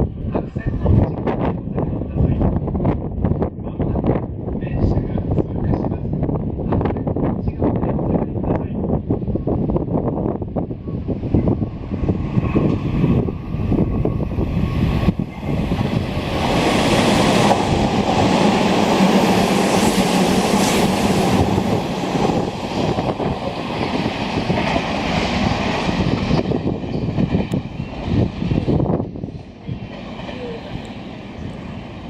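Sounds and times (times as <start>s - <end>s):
train passing at speed: 0.0s - 32.0s.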